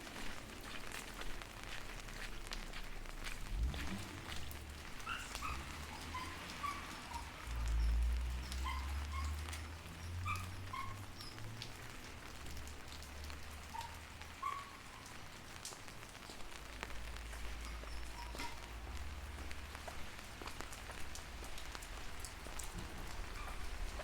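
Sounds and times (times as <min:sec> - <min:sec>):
close raindrops landing: 0:00.0 - 0:24.0
rain falling: 0:00.0 - 0:24.0.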